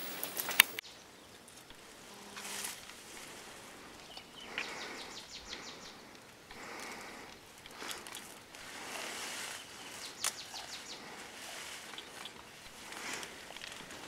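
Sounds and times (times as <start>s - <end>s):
faint forest ambience: 0.0s - 14.0s.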